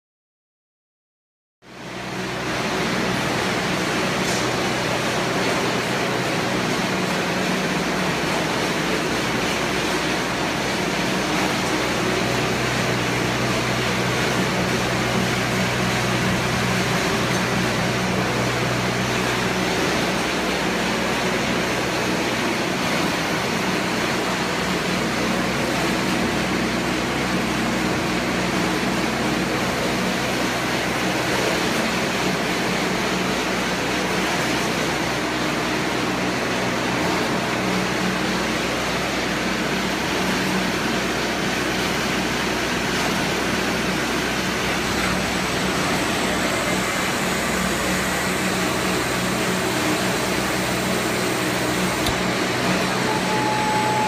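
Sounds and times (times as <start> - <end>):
air compressor hum: 1.8 - 54.0.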